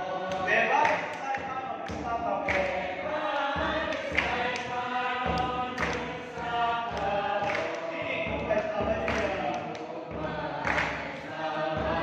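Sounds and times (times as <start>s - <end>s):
group singing a hymn: 0.0s - 12.0s
low drum beat: 1.4s - 12.0s.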